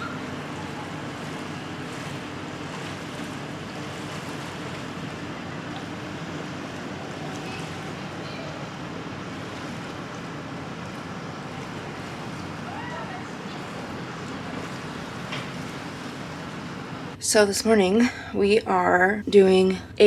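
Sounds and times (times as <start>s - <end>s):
sea noise: 0.0s - 20.0s
wind: 0.0s - 20.0s.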